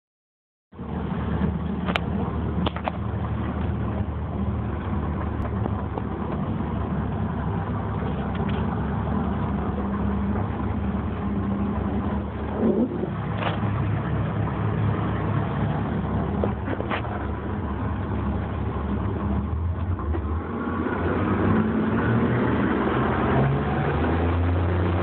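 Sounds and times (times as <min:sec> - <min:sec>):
outboard motors droning: 0:00.7 - 0:25.0.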